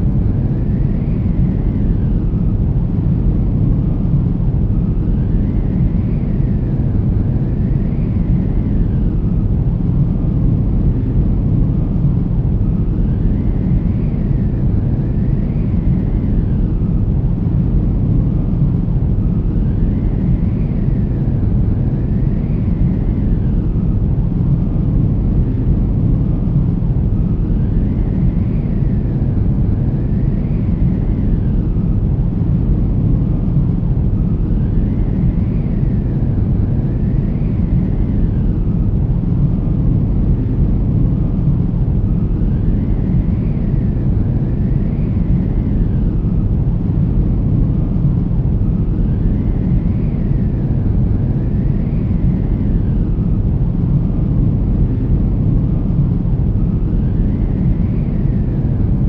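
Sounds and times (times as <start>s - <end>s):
low rumbling drone: 0.0s - 59.0s
faint whistling tones: 3.7s - 59.0s.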